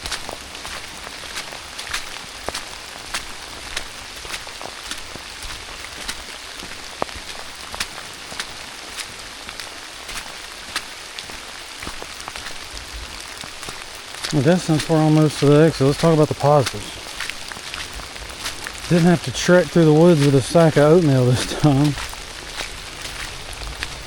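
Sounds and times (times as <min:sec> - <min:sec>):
heavy raindrops ticking: 0:00.0 - 0:24.0
steady rain hissing: 0:00.0 - 0:24.0.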